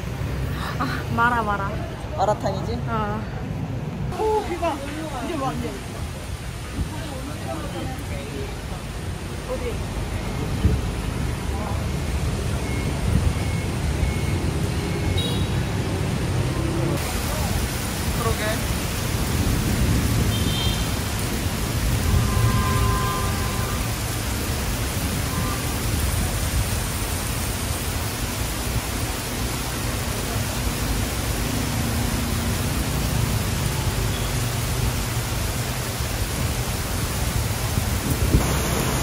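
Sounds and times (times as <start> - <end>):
heavy rain on street: 0.0 - 39.0
traffic on wet road: 0.0 - 39.0.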